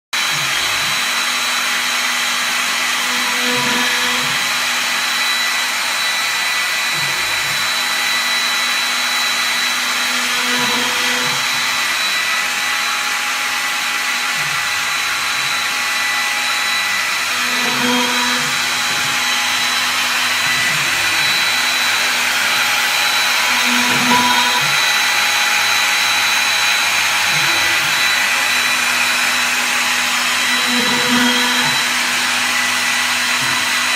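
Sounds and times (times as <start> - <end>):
router motor with high whine: 0.2 - 33.9
lower machine tone: 2.8 - 13.0, 14.3 - 32.6.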